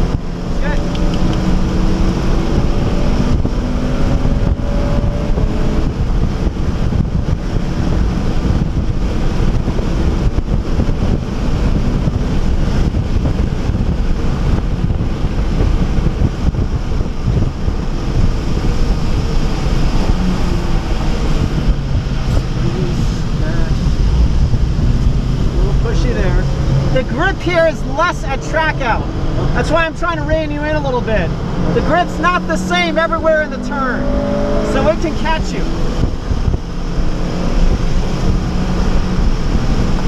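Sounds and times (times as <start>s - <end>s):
car engine pulling: 0.0s - 40.0s
wind rushing: 0.0s - 40.0s.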